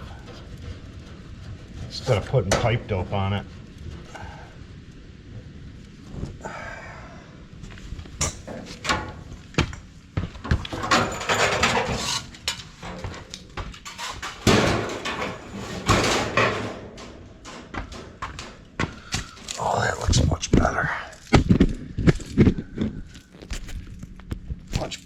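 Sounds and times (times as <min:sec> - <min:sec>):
scraping and rustling: 0:00.0 - 0:06.4, 0:07.5 - 0:25.0.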